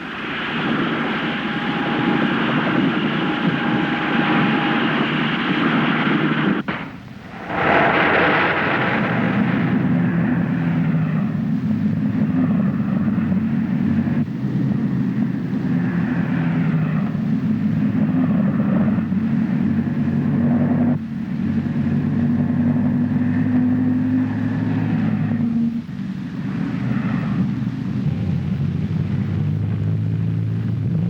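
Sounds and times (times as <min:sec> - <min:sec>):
highway traffic rushing: 0:00.0 - 0:31.0.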